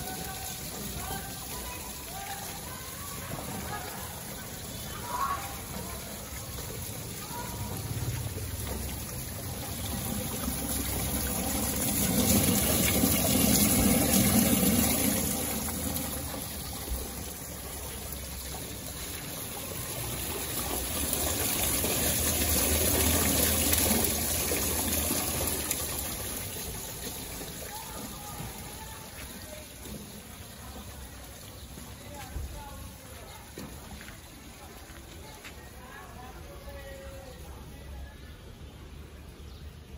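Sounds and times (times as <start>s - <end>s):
water pouring down filter screen: 0.0s - 36.4s.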